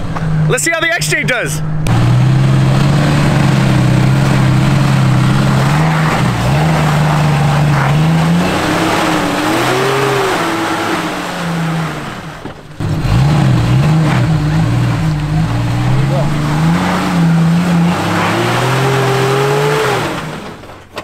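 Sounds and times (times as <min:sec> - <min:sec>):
engine working under load: 0:01.6 - 0:21.0.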